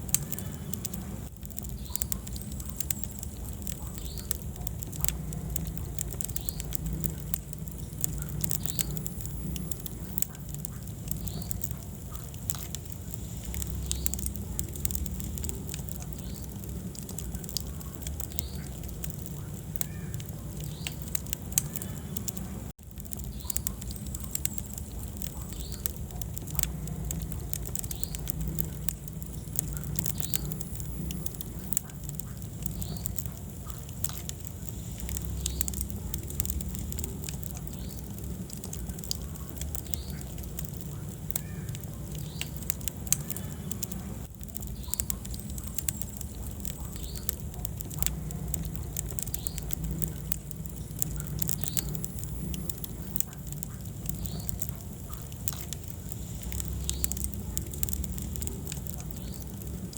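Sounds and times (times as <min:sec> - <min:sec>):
fire crackles and snaps: 0:00.0 - 0:59.9
low rumble of flames: 0:00.0 - 0:59.9.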